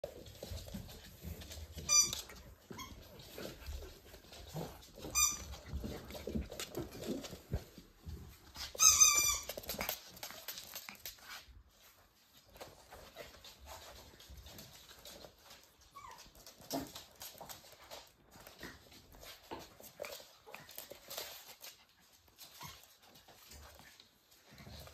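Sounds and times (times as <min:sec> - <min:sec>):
scuffling on floor: 0:00.0 - 0:24.9.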